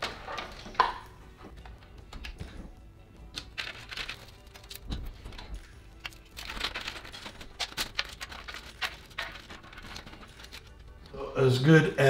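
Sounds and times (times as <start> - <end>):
cables rustling against pc case: 0.0 - 11.1.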